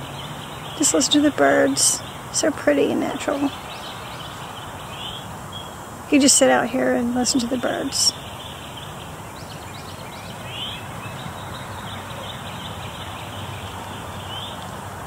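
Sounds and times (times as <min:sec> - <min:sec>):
birds chirping faintly: 0:00.0 - 0:14.9
steady hiss: 0:00.0 - 0:15.0.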